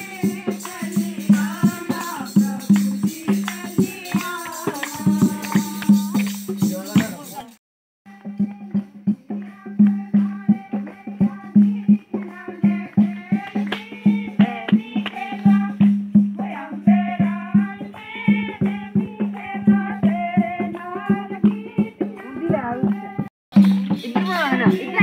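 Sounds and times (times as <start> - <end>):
devotional singing: 0.0 - 7.4, 8.1 - 23.3
rhythmic drum beat: 0.0 - 25.0
shaker percussion rattling: 0.0 - 25.0.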